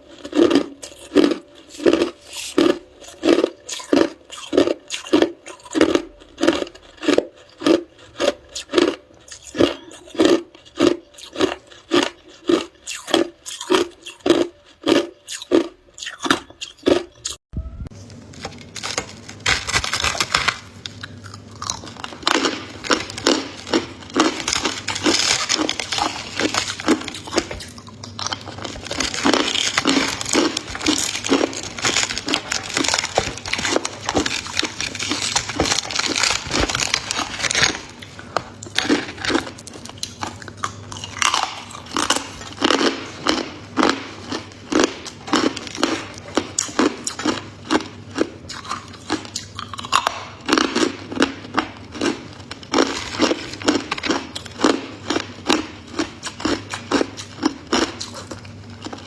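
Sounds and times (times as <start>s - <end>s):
ice crunching while chewed: 0.0s - 17.4s, 18.7s - 59.0s.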